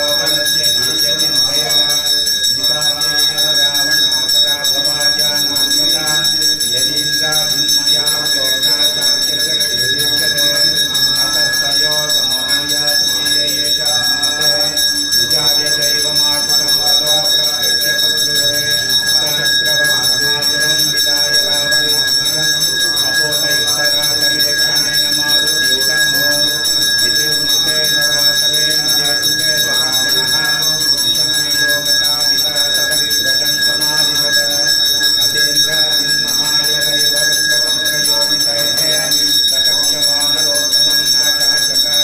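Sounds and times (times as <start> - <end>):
temple bell ringing: 0.0 - 42.0.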